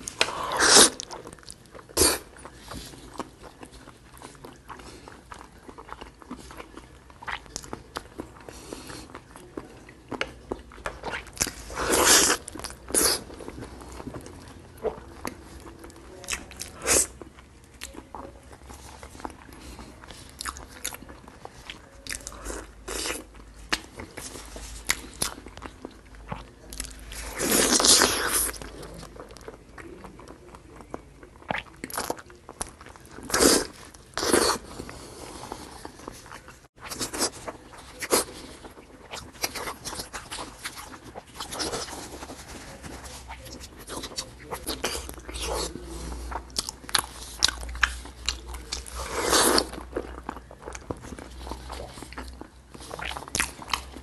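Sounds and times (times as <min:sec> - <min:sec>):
person chewing sticky food: 0:00.0 - 0:54.0.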